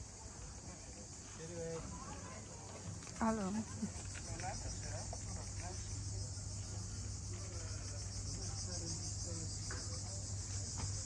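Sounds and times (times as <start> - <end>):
cicadas singing: 0.0 - 11.0
faint voices: 0.0 - 11.0.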